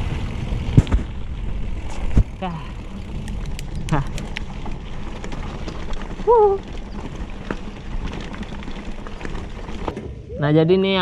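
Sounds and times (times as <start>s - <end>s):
bike tyres rumbling on stones: 0.0s - 10.2s
bike rattling clicks: 0.5s - 10.0s.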